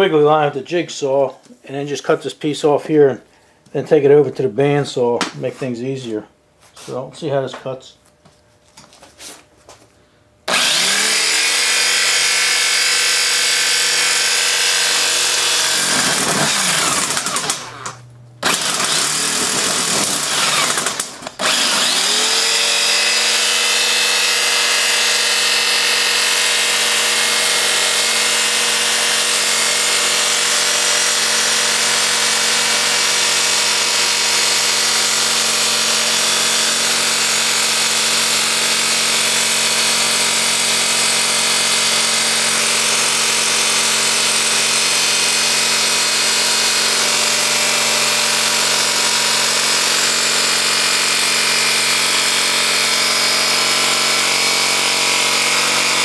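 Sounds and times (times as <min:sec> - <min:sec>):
jigsaw cutting sheet steel: 0:10.5 - 0:56.0.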